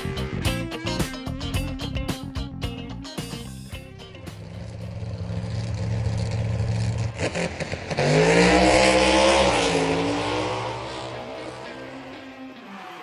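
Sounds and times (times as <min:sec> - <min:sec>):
race car engine revving: 0:00.0 - 0:02.4, 0:04.0 - 0:13.0.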